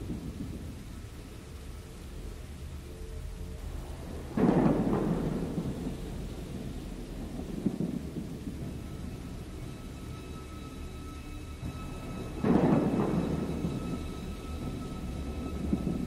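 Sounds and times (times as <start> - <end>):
thunderclap: 0.0 - 1.5, 3.6 - 16.0
rain rumbling: 0.0 - 16.0
rumble of thunder: 0.0 - 16.0.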